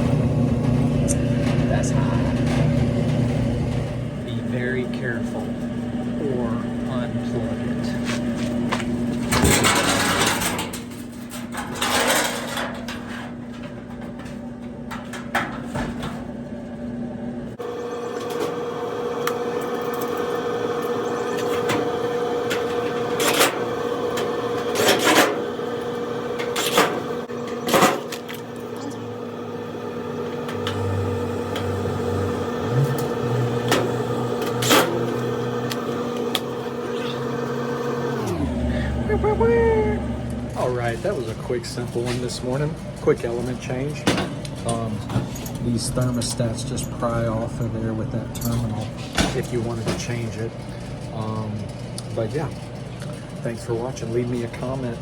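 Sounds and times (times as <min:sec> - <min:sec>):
dryer motor and drum hum: 0:00.0 - 0:55.0.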